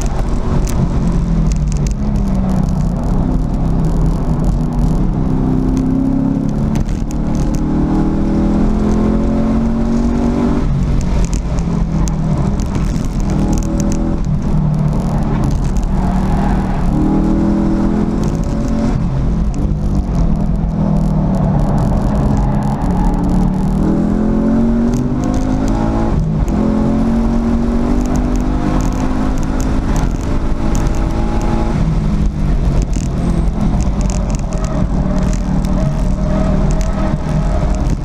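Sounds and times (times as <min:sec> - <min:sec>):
car engine accelerating hard: 0:00.0 - 0:38.0.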